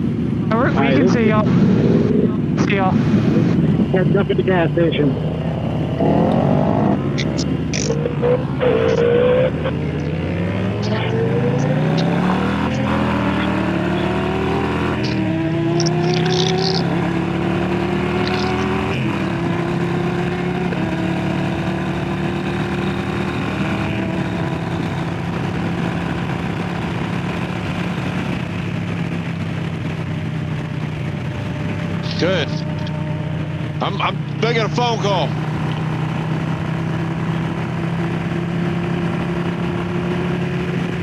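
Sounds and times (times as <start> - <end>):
motorcycle accelerating through gears: 0.0 - 41.0.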